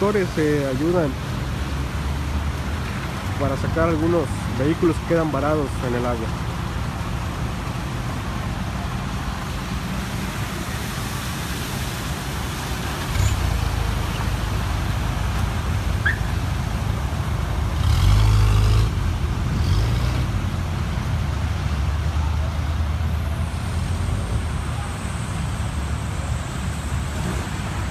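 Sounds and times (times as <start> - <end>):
car engines running: 0.0 - 27.9.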